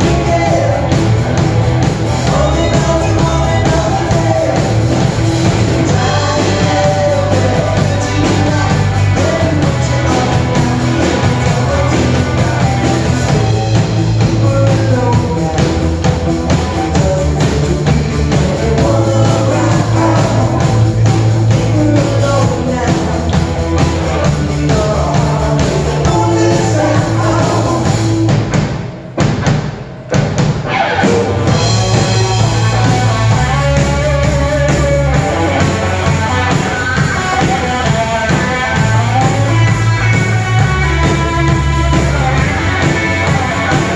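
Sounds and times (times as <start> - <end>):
electric guitars: 0.0 - 28.5, 30.1 - 43.9
drum kit: 0.0 - 43.9.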